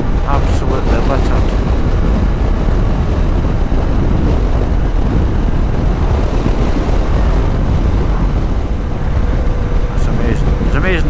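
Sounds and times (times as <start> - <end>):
motorcycle engine and road noise: 0.0 - 11.0
wind buffeting microphone: 0.0 - 11.0.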